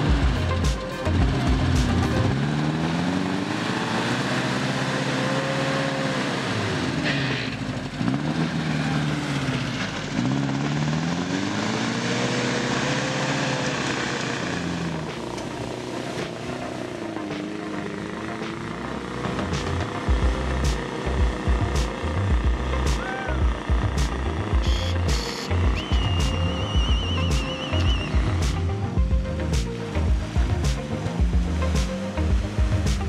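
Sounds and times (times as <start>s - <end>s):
engine revving under load: 0.0s - 33.0s.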